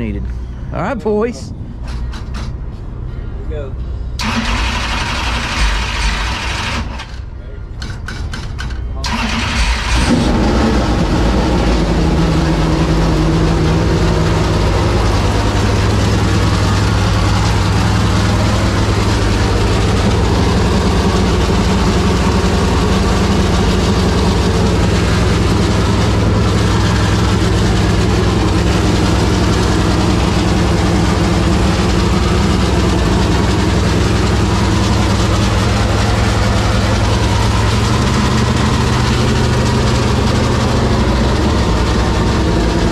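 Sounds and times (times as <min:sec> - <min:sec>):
race engine cranking and idling: 0:00.0 - 0:42.9.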